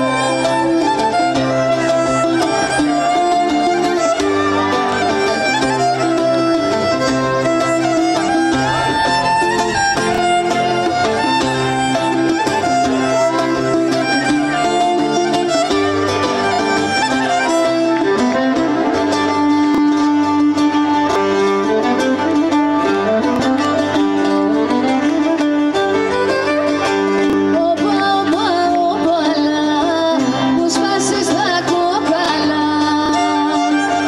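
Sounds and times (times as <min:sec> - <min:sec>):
lute strumming: 0:00.0 - 0:34.0
violin melody: 0:00.0 - 0:34.0.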